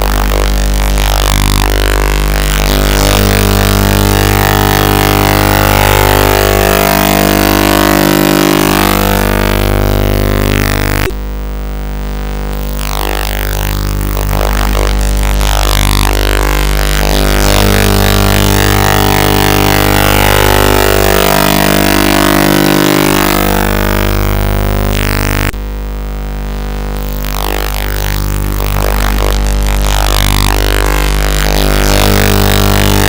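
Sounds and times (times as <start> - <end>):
loud distorted music: 0.0 - 11.4, 12.3 - 25.6, 27.0 - 33.0.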